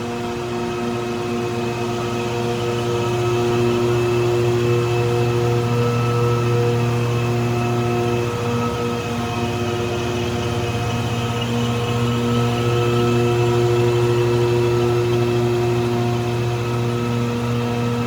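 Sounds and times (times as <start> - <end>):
concrete grinding machine droning: 0.2 - 18.0.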